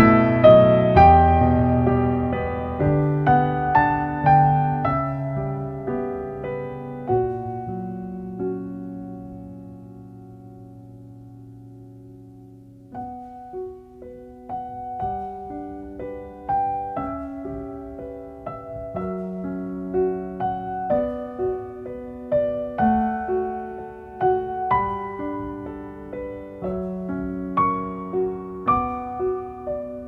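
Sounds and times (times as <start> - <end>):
slow piano melody: 0.0 - 30.0.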